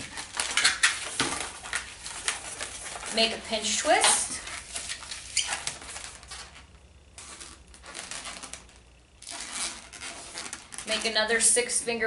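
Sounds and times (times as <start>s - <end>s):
balloons squeaking and rubbing: 0.0s - 11.5s.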